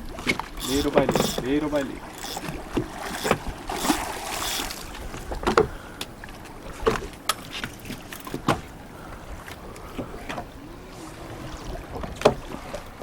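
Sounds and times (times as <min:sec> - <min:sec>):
hiss of water and wind: 0:00.0 - 0:13.0
water slapping boat hull: 0:00.0 - 0:13.0.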